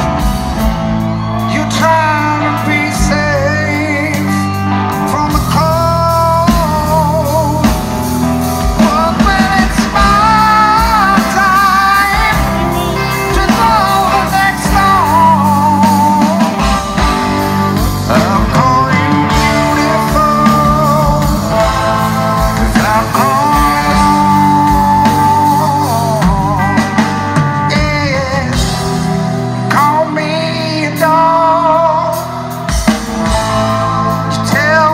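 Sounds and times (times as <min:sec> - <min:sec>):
bass guitar: 0:00.0 - 0:34.9
electric guitar: 0:00.0 - 0:34.9
man singing: 0:00.0 - 0:34.9.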